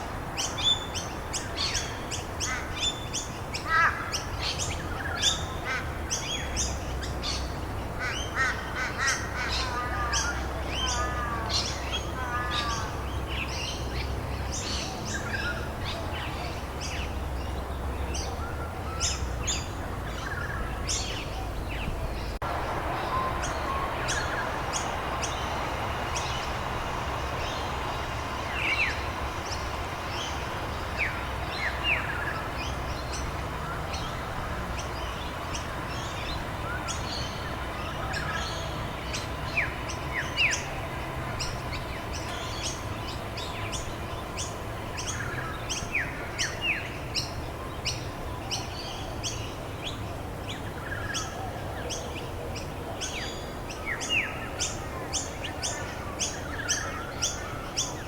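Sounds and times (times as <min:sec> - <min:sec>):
outdoor background noise: 0:00.0 - 0:58.0
wild birds chirping: 0:00.0 - 0:58.0.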